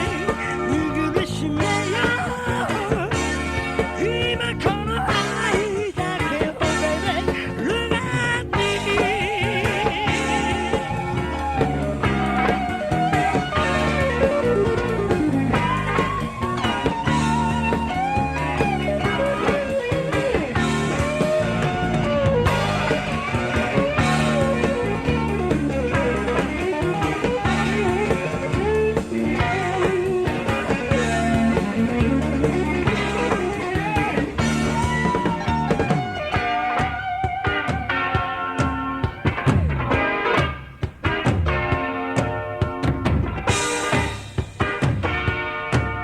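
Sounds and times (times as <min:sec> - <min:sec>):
lead electric guitar melody: 0:00.0 - 0:46.0
live rock band instrumental: 0:00.0 - 0:46.0.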